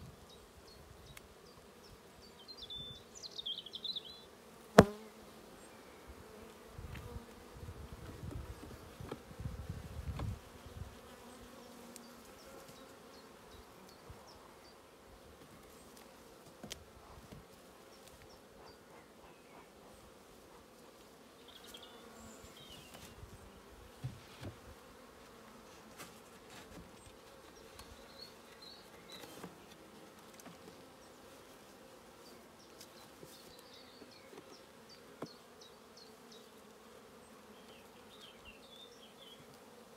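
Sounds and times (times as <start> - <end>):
bees buzzing: 0.2 - 39.9.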